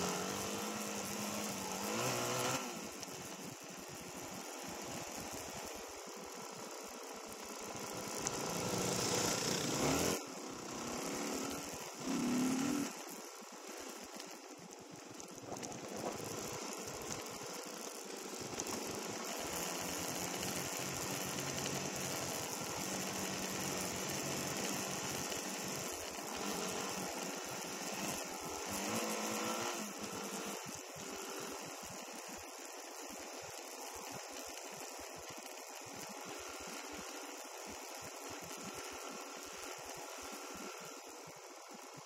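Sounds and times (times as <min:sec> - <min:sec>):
dirt bike engine running: 0:00.0 - 0:42.0
rapid mechanical rattle: 0:00.0 - 0:42.0.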